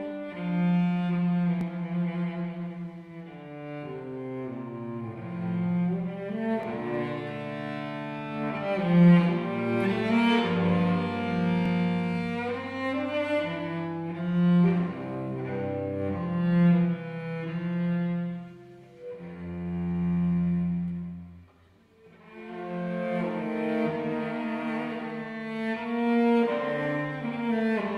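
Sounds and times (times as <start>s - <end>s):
cello playing slow melody: 0.0s - 27.9s.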